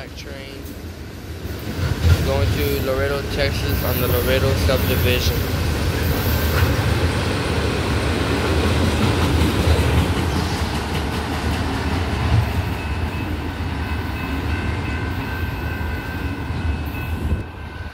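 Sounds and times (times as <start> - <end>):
freight cars rolling on rails: 1.4 - 17.9.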